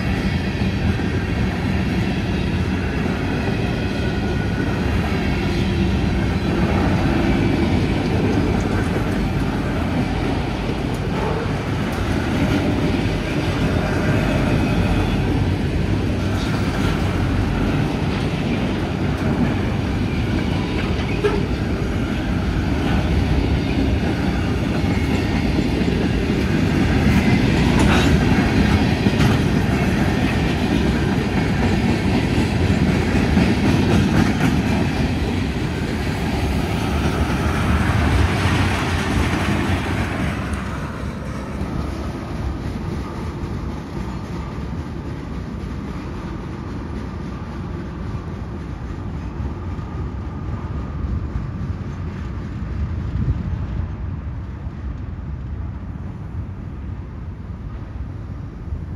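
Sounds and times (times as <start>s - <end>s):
freight train rolling past: 0.0s - 58.9s.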